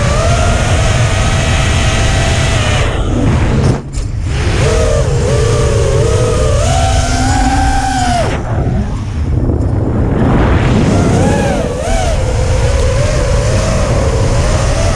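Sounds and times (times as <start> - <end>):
drone motors whining: 0.0 - 14.9
wind rumble on microphone: 0.0 - 14.9.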